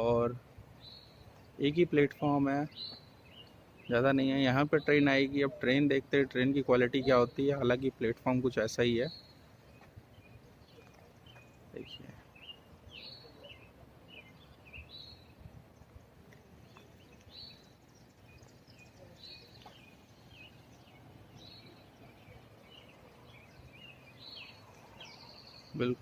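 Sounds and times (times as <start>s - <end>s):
low outdoor background hum: 0.0s - 26.0s
small birds chirping: 0.0s - 26.0s.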